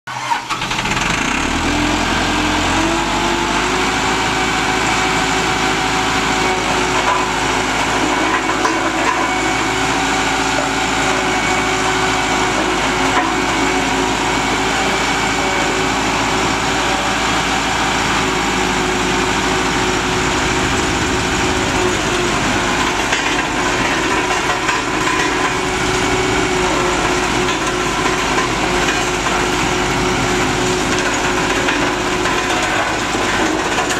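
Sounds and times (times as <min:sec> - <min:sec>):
diesel engine running loudly: 0:00.1 - 0:33.9.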